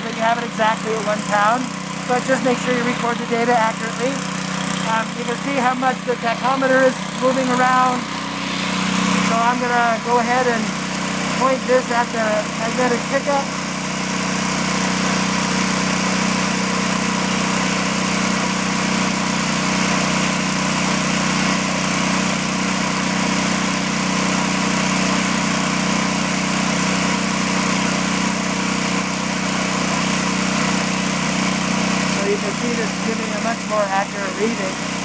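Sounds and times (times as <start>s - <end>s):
lawnmower engine running: 0.0s - 35.0s.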